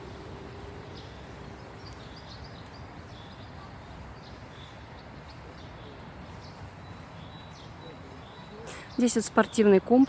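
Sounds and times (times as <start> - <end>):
low outdoor rumble: 0.0 - 8.2
songbirds chirping: 0.0 - 10.0.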